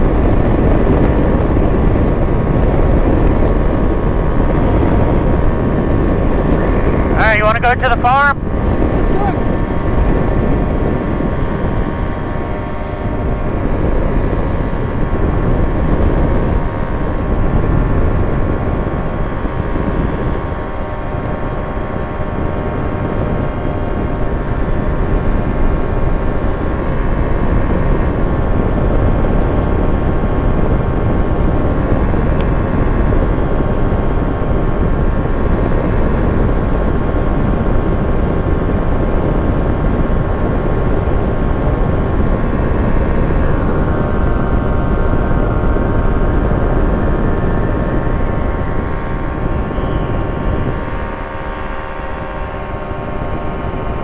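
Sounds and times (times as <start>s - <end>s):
aircraft engine and propeller drone: 0.0s - 54.0s
rush of air: 0.0s - 54.0s.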